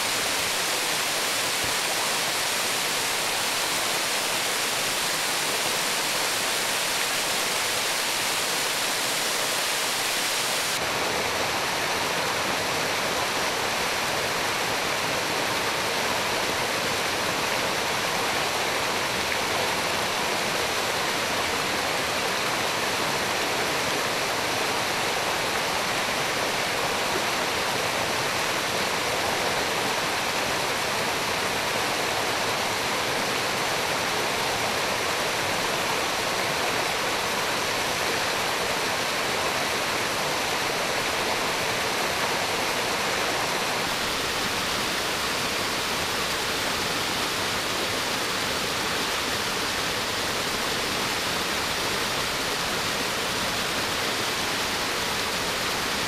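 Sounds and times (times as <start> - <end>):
waterfall rushing: 0.0 - 22.5, 23.2 - 56.0.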